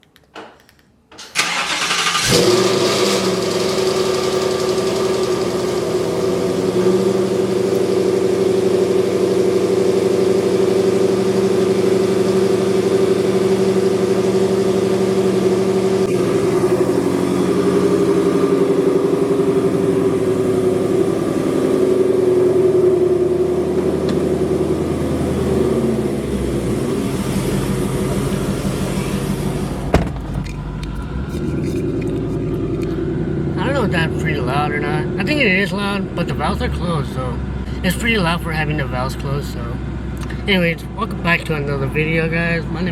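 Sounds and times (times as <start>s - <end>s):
car engine cranking: 1.2s - 37.7s
car engine idling: 1.4s - 42.9s.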